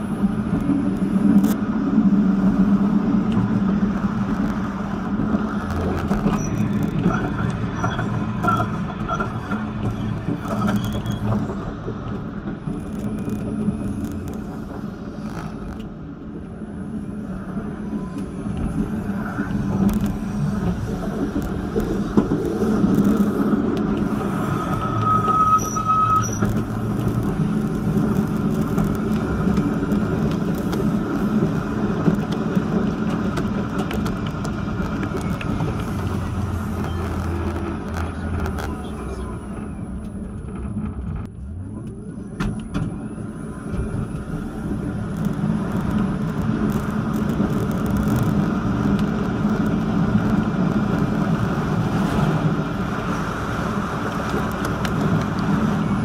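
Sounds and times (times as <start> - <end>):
tram wheels rumbling on rails: 0.0 - 56.0.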